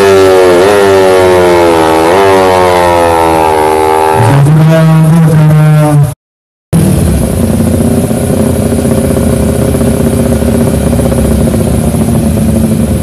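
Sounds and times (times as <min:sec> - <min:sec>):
motorcycle engine running: 0:00.0 - 0:06.0, 0:06.8 - 0:13.0.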